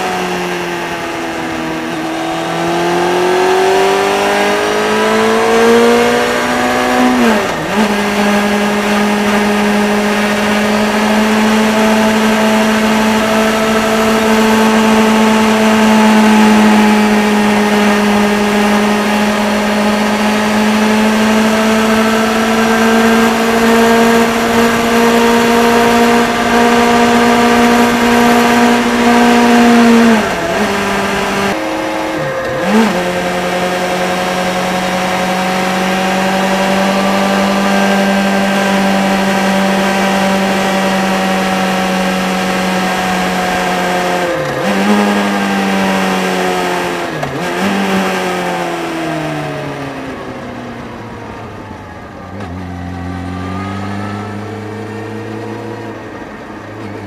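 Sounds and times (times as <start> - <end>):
wind and road rush: 0.0 - 57.0.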